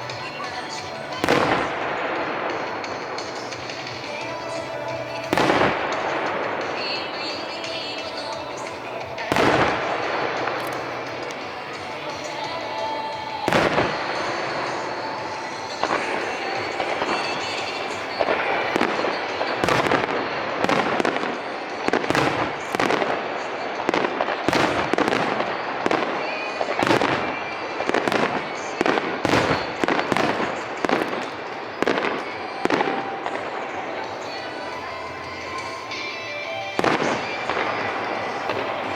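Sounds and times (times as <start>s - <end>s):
fireworks booming: 0.0s - 38.9s
fireworks crackle: 0.0s - 38.9s.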